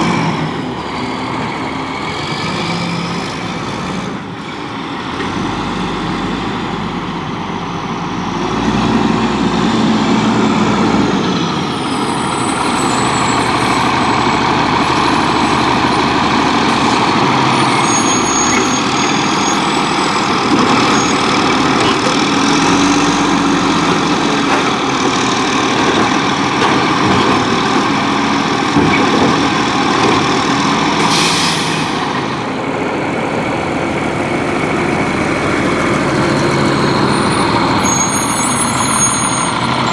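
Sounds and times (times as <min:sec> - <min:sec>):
garbage truck diesel engine running: 0:00.0 - 0:39.9.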